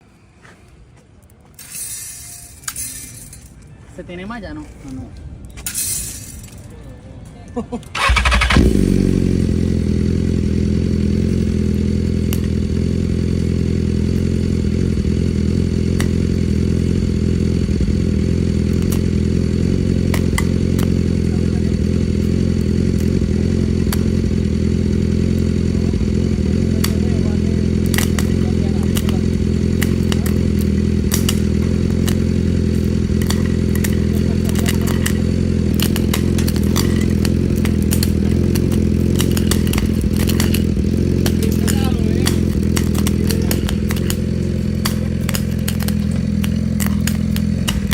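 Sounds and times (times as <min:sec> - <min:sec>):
motorcycle engine droning: 0:07.9 - 0:47.9
exhaust crackles and pops: 0:08.0 - 0:47.9.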